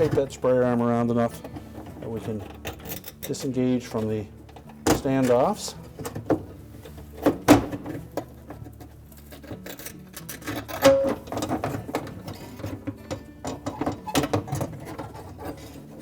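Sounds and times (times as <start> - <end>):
metal parts clicking and rattling: 1.4 - 16.0.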